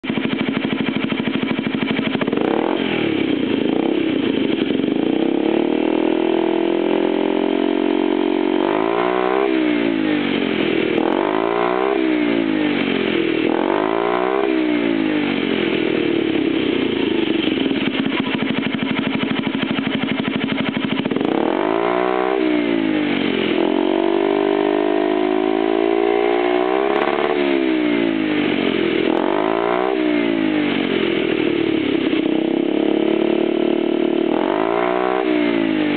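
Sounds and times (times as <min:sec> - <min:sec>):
scooter engine idling and revving: 0:00.0 - 0:35.9.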